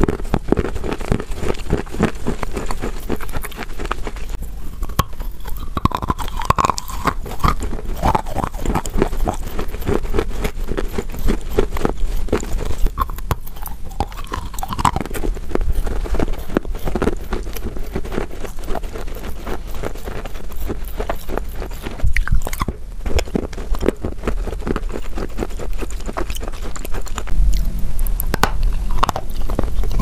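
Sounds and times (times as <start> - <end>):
chewing crunchy chalk: 0.0 - 30.0.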